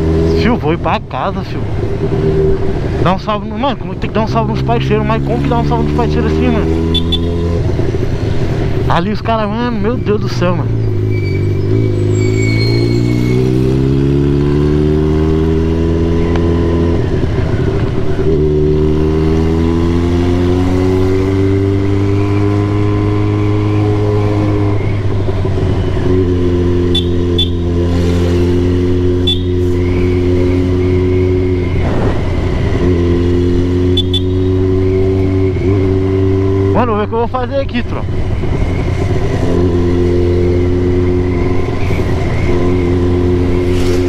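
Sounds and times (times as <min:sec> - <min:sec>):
motorcycle engine accelerating: 0:00.0 - 0:00.9, 0:01.6 - 0:09.0, 0:09.7 - 0:44.0.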